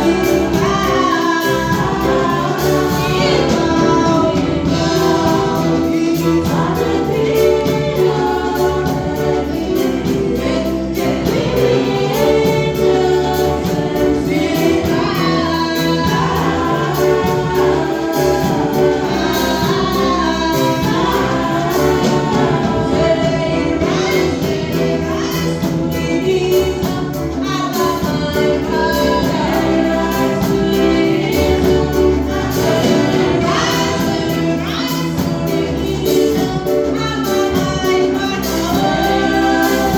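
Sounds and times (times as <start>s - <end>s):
choir singing gospel: 0.0s - 39.9s
instrumental backing: 0.0s - 39.9s.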